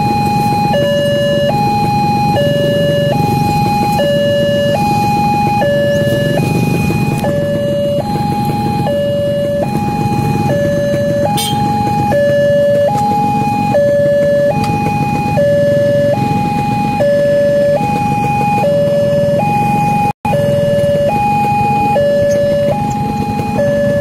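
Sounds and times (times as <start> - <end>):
steady low rumble: 0.0 - 24.0
two-tone crossing alarm: 0.0 - 24.0.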